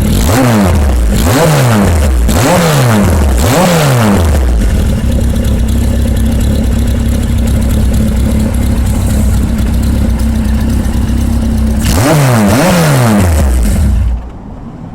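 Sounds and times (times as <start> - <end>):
engine idling with deep exhaust: 0.0 - 14.4
engine revving blips: 0.0 - 14.4.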